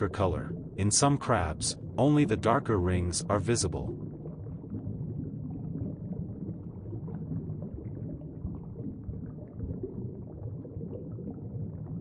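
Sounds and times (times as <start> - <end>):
underwater rumble: 0.0 - 12.0
water bubbling and gurgling: 0.0 - 12.0.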